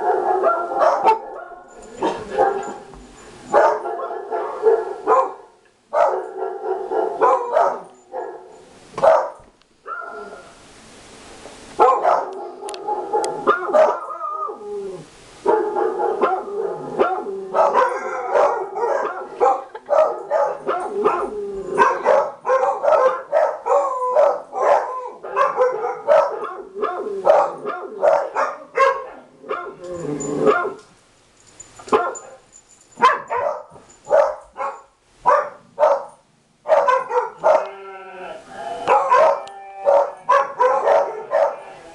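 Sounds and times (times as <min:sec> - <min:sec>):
dogs barking: 0:00.0 - 0:02.9, 0:03.5 - 0:10.4, 0:11.8 - 0:14.1, 0:15.4 - 0:29.8, 0:30.4 - 0:30.8, 0:31.9 - 0:32.4, 0:33.0 - 0:37.9, 0:38.8 - 0:41.8.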